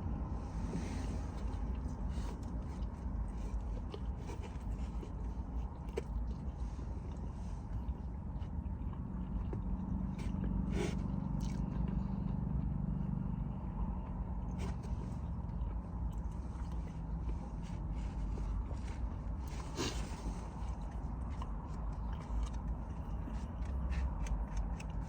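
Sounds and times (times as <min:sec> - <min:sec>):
quiet chewing: 0:00.0 - 0:25.0
steady low hum: 0:00.0 - 0:25.0.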